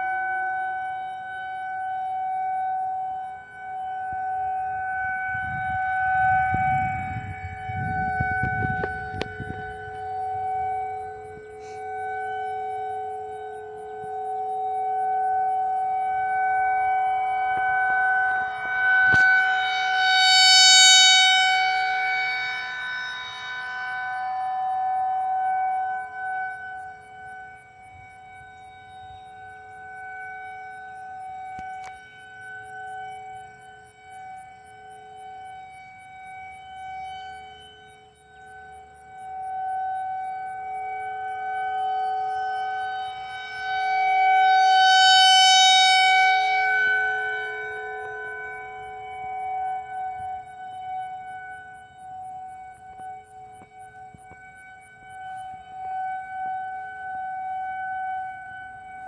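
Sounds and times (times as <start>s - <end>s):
tornado warning siren: 0.0s - 59.0s.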